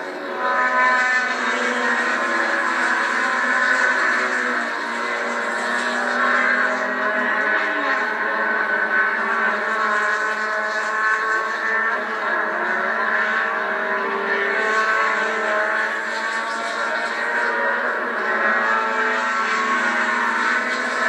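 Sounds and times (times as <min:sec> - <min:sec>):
racing car engines passing: 0:00.0 - 0:21.0.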